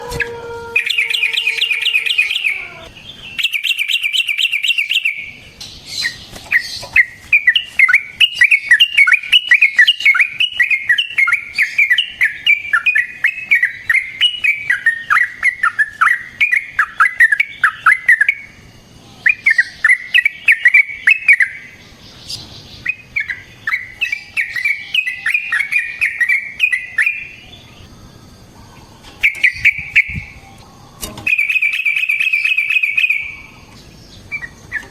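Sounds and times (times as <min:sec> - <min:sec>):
bird singing rapid chattering notes: 0:00.8 - 0:34.9.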